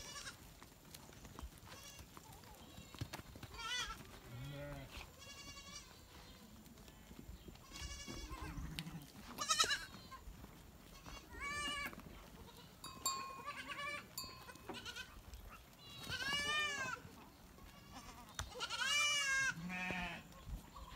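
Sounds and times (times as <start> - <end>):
goats and sheep bleating: 0.0 - 0.6, 1.5 - 6.4, 7.5 - 20.9.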